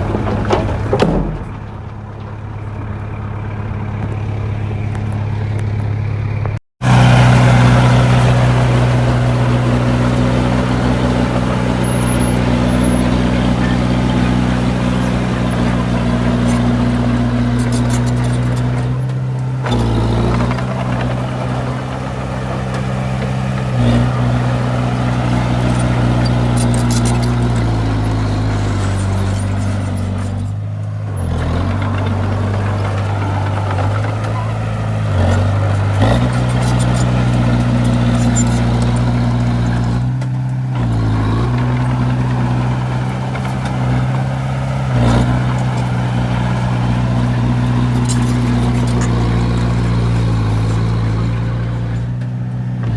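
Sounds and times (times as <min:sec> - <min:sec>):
heavy machinery diesel engines: 0:00.0 - 0:52.9.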